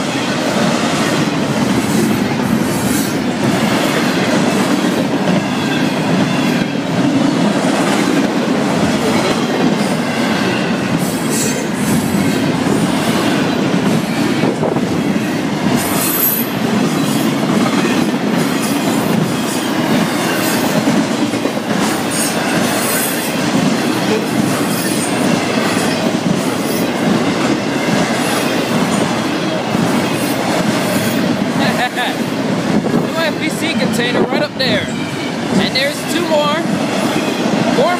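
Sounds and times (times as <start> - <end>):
freight train cars rumbling past: 0.0 - 37.9.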